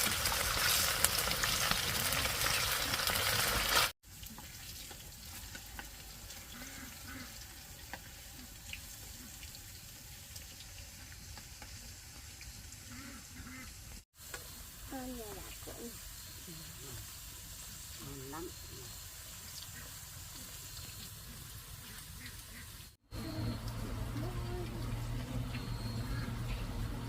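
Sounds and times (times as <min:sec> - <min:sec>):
chips sizzling in hot oil: 0:00.0 - 0:27.0.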